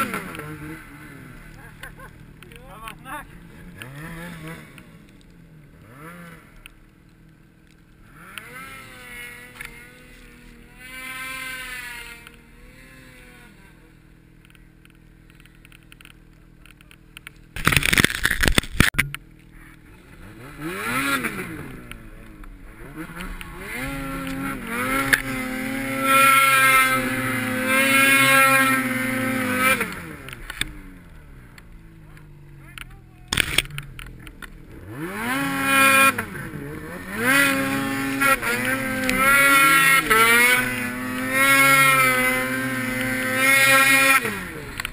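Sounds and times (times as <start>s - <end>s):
snowmobile engines revving: 0.0s - 18.4s, 19.4s - 44.9s.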